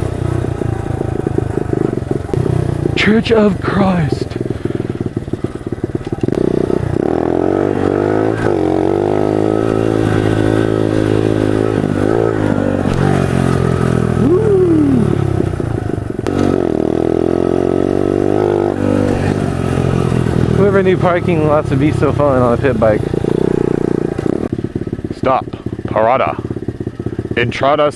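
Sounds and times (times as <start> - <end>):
pit bike engine revving: 0.0 - 27.9.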